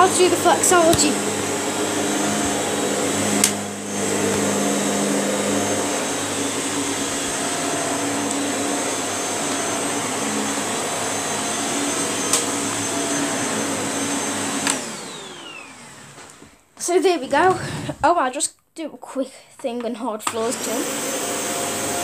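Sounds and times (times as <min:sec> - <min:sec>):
stick vacuum motor whine: 0:00.0 - 0:16.6, 0:20.3 - 0:22.0.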